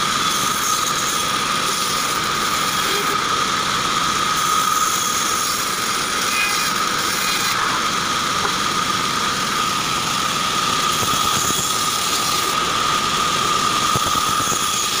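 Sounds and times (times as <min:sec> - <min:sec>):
band saw cutting logs: 0:00.0 - 0:15.0.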